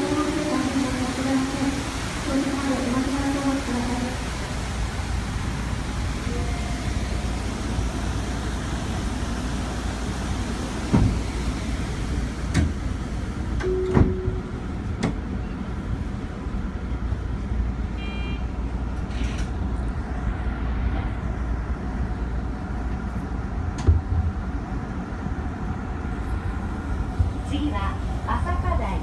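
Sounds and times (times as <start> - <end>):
train rumbling inside carriage: 0.0 - 29.0.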